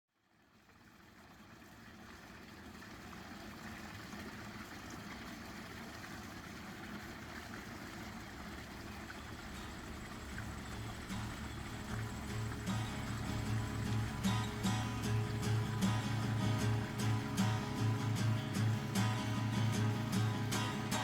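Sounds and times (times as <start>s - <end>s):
rushing water: 0.4s - 21.0s.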